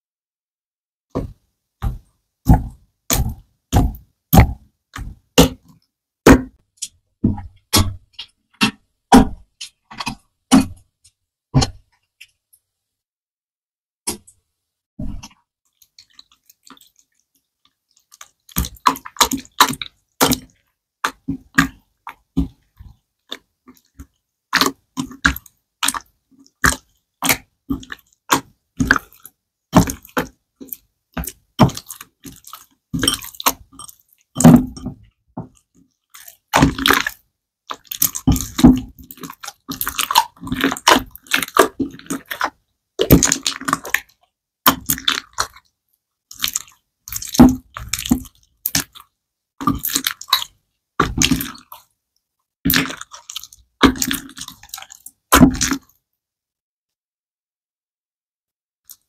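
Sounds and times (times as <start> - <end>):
slime squelching and popping: 1.2 - 12.5, 15.0 - 51.9, 52.6 - 56.0.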